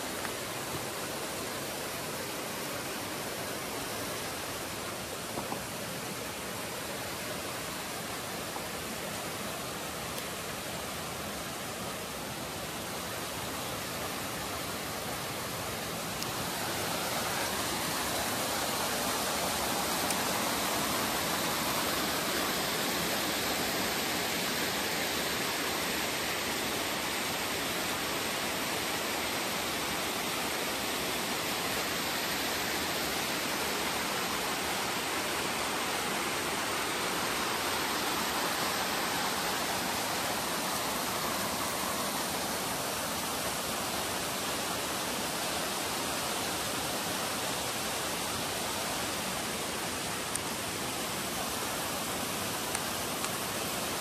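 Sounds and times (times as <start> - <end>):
rushing stream and waterfall: 0.0 - 54.0.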